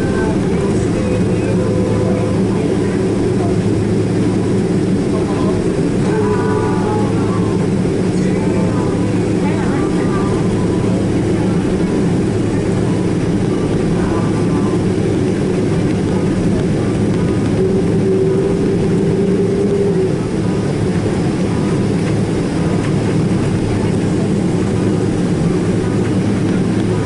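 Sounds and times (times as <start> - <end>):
steady tone: 0.0 - 23.3
jet engines humming at idle: 0.0 - 27.0.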